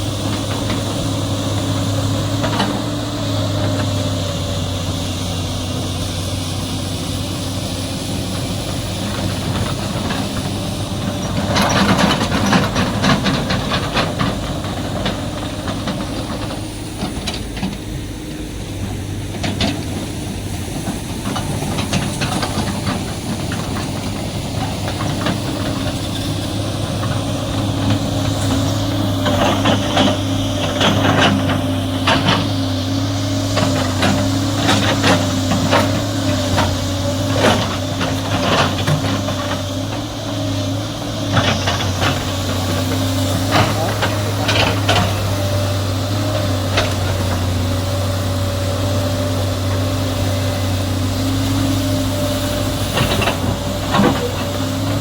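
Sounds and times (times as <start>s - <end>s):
diesel engine running: 0.0s - 55.0s
excavator clanking and knocking: 0.0s - 55.0s.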